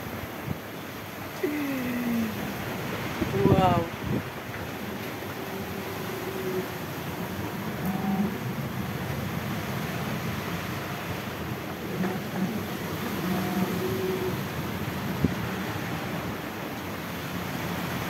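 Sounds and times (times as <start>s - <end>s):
wind and water rushing: 0.0s - 18.0s.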